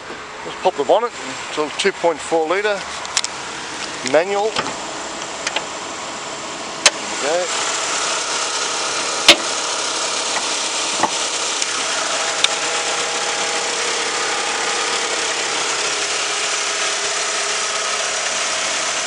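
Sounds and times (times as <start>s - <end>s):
van engine idling: 0.0s - 19.0s.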